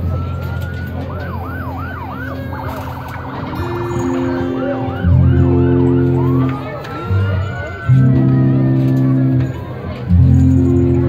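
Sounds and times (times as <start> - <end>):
emergency vehicle sirens wailing: 0.0 - 11.0.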